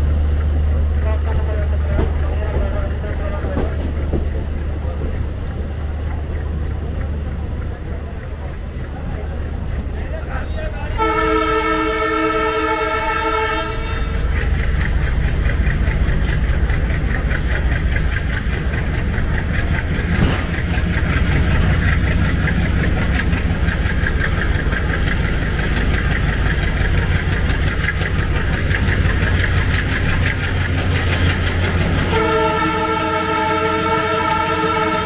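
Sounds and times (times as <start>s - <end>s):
diesel locomotive engine chugging: 0.0s - 35.0s.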